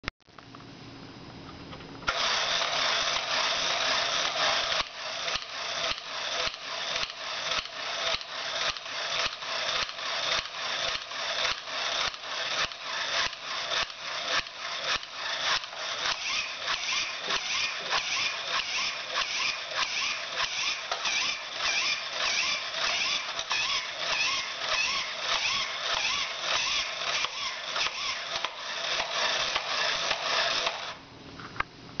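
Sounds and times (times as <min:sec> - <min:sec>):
toy motor and gears clattering: 0:02.1 - 0:31.0.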